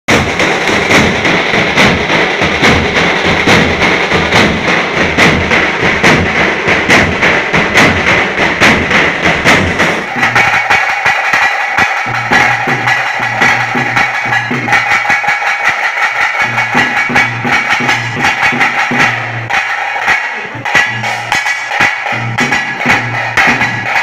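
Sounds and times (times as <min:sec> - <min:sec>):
fast group drumming: 0:00.0 - 0:24.0.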